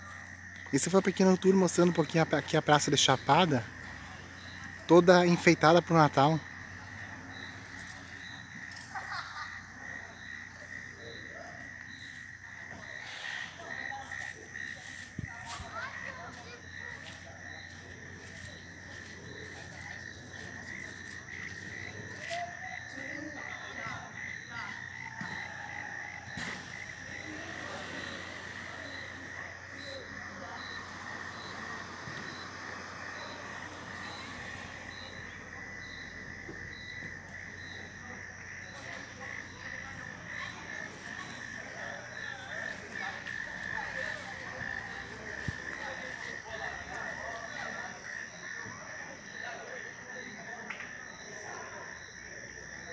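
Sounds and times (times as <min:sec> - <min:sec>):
frogs and insects trilling: 0:00.0 - 0:52.9.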